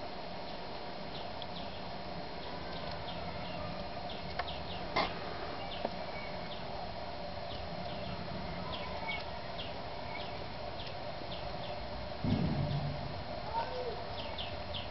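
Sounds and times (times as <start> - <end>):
low background hum: 0.0 - 14.9
small birds chirping: 0.4 - 14.9.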